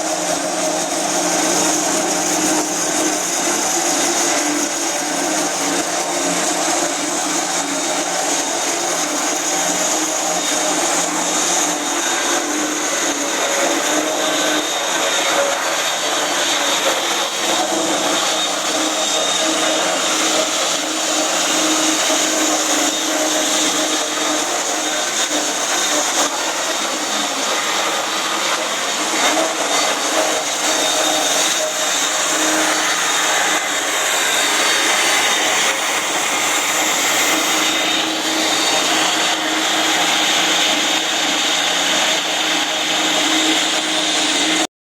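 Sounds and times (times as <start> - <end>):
concrete grinder running: 0.0 - 44.7.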